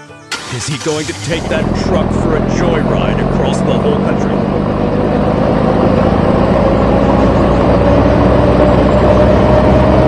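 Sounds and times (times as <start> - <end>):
truck engine pulling away: 0.3 - 10.0.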